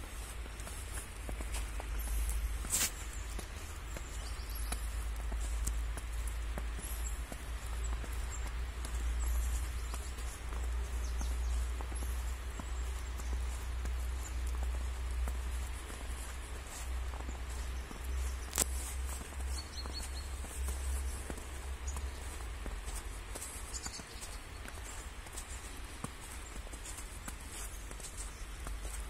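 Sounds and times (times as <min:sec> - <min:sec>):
footsteps on snow: 0:00.0 - 0:29.0.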